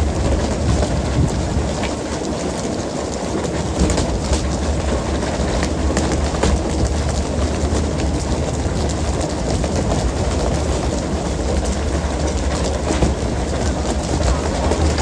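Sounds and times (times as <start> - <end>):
boat engine rumbling: 0.0 - 15.0
churning sea water: 0.0 - 15.0
knocks and clatter on deck: 0.2 - 15.0.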